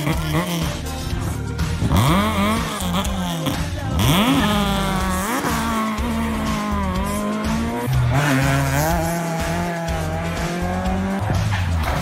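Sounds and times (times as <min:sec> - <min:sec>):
rally car engines revving: 0:00.0 - 0:12.0.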